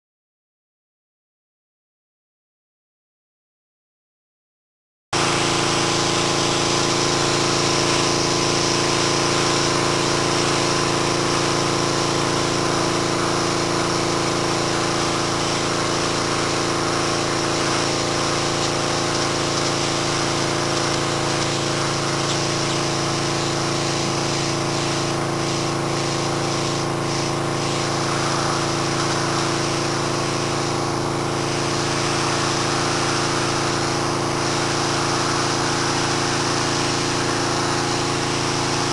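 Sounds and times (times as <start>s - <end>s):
pressure washer pump drone: 5.2s - 38.9s
spray nozzle hissing on concrete: 5.2s - 38.9s.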